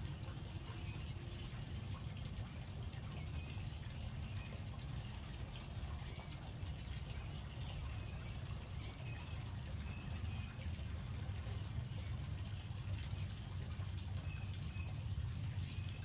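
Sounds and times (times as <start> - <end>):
small birds chirping: 0.6 - 16.0.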